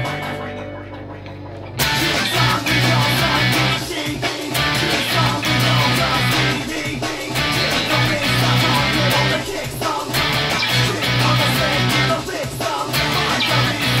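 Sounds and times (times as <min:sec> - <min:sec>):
drums: 0:00.0 - 0:14.0
heavy bass line: 0:00.0 - 0:14.0
rock band music: 0:00.0 - 0:14.0
electric guitar strummed hard: 0:01.7 - 0:14.0.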